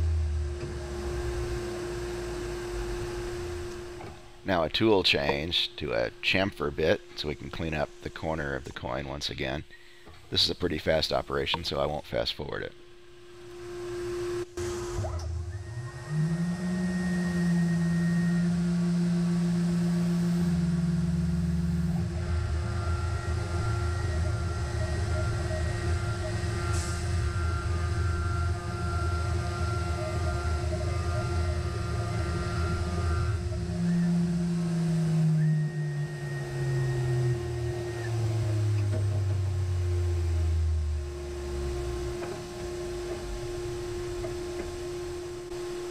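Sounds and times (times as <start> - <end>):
mill spindle whining: 0.0 - 45.9
steady hum: 0.0 - 45.9.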